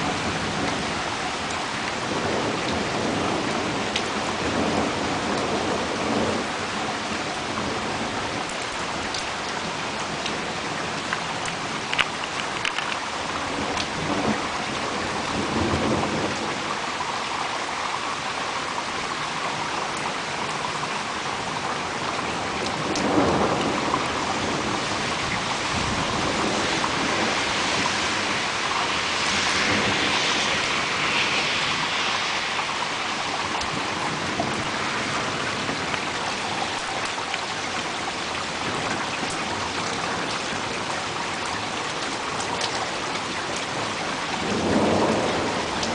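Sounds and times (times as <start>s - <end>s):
thunder rumbling: 0.0s - 8.9s, 9.6s - 16.8s, 19.5s - 45.9s
rain falling steadily: 0.0s - 45.9s.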